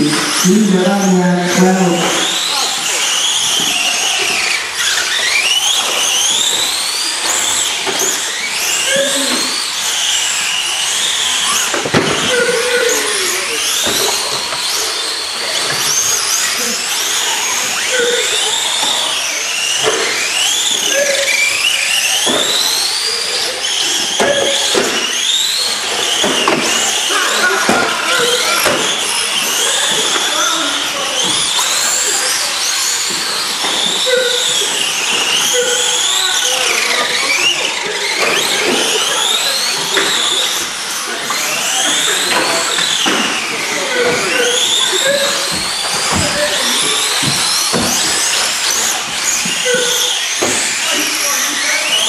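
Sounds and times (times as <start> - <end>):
electric toy car motors whining: 0.0 - 52.0.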